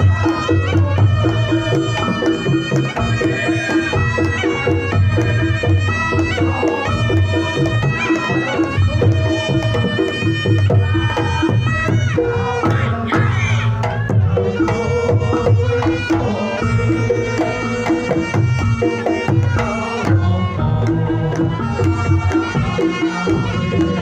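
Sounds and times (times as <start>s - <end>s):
shawm playing reedy melody: 0.0s - 24.0s.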